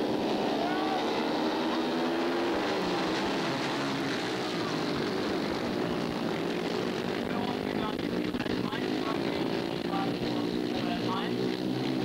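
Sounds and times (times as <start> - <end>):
racing engines revving: 0.0 - 12.0.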